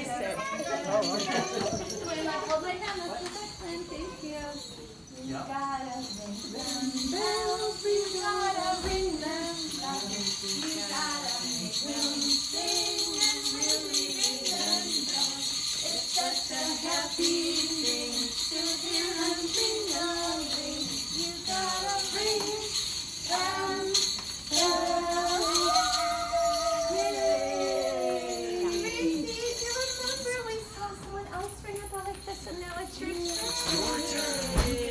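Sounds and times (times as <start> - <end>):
jingling percussion: 0.0 - 34.9
person singing a melody: 2.4 - 34.9.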